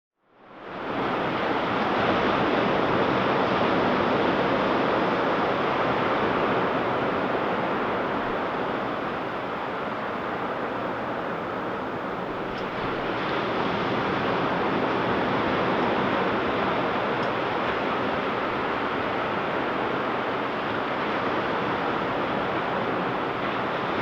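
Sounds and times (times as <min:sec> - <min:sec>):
ocean surf breaking on a beach: 0:00.4 - 0:24.0.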